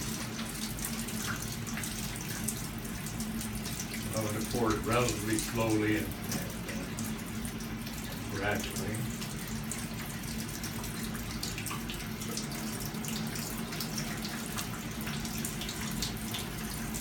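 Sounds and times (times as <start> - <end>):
water pouring into a steel sink: 0.0 - 17.0.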